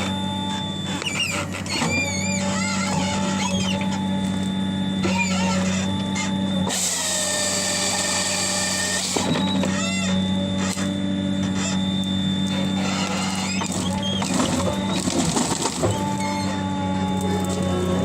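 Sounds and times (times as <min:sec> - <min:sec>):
machinery humming with whines: 0:00.0 - 0:18.0.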